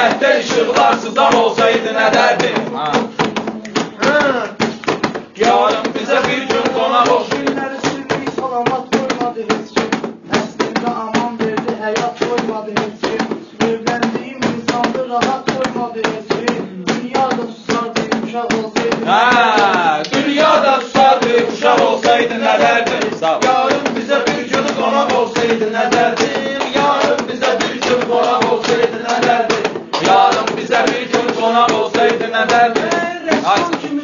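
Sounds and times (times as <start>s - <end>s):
man singing rhymed verse: 0.0s - 34.0s
quick percussive beat: 0.0s - 34.0s.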